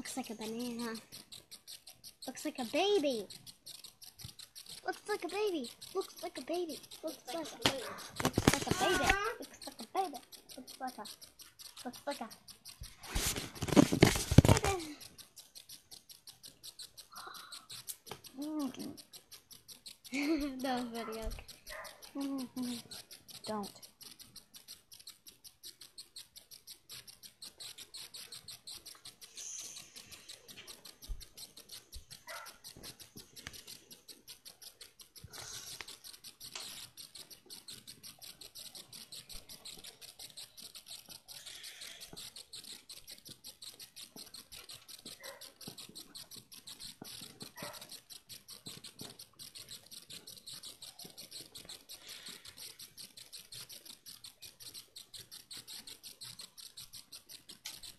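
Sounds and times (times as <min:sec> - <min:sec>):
rapid clicking: 0:00.0 - 0:57.9.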